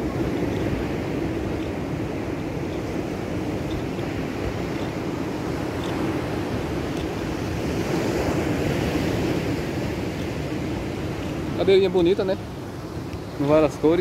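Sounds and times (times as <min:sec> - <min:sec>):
breaking surf: 0:00.0 - 0:14.0
wind buffeting microphone: 0:00.0 - 0:14.0.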